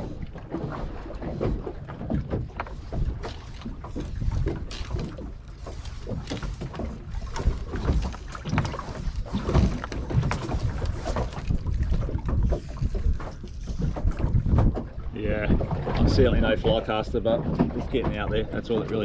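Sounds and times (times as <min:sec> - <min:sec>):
water slapping against boat hull: 0:00.0 - 0:19.0
wind rumbling on microphone: 0:00.0 - 0:19.0.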